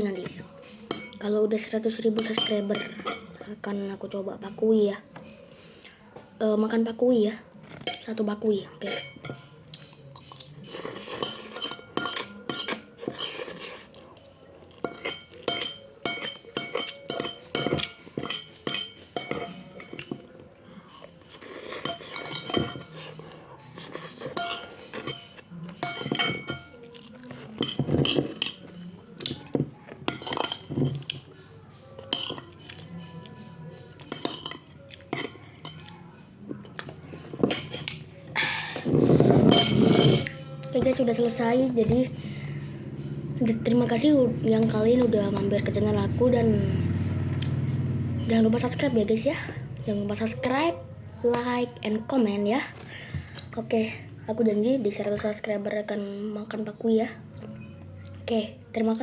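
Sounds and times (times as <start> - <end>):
utensils clinking against dish: 0.0 - 6.1, 7.6 - 56.8.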